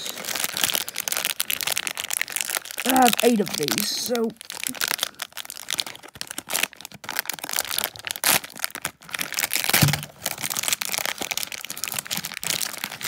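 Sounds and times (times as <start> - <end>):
foil packet crinkling: 0.0 - 13.0.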